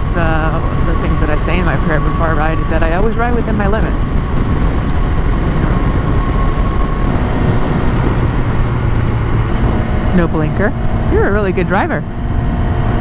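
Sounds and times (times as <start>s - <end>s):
motorcycle engine droning: 0.0s - 13.0s
wind rush over microphone: 0.0s - 13.0s.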